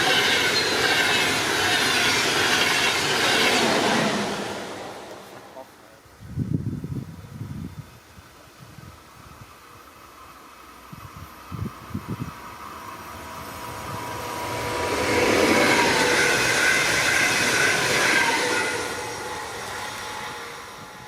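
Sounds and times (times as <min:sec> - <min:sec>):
electric train passing: 0:00.0 - 0:05.6, 0:08.8 - 0:21.0.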